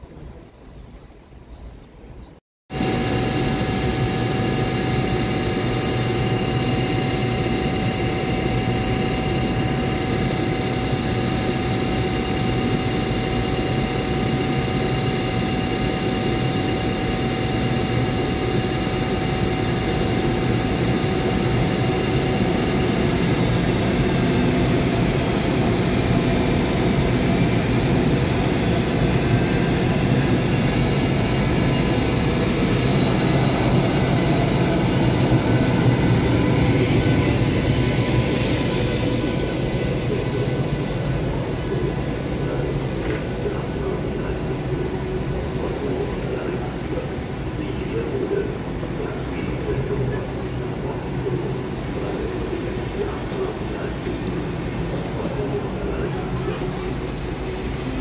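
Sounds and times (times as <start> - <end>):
electrical whining tones: 2.7 - 58.0
locomotive fans humming: 2.7 - 58.0.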